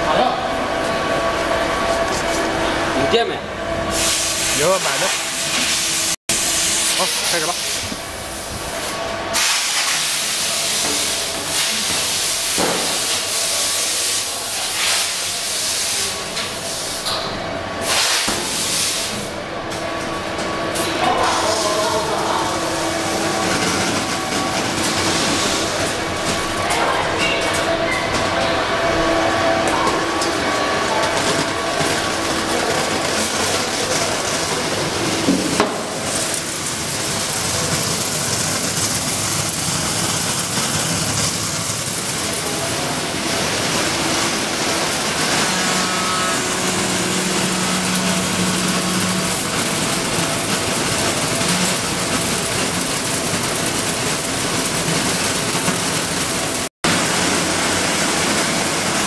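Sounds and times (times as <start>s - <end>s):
faint machine hum: 0.0s - 59.0s
sorting machine hiss and rattle: 1.6s - 59.0s.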